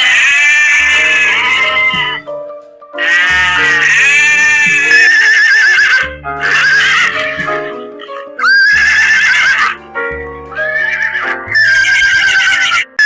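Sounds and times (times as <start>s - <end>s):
horse whinnying: 0.0s - 2.2s, 3.0s - 7.5s, 8.4s - 9.8s, 10.6s - 13.0s
background music with bass line: 0.0s - 13.0s.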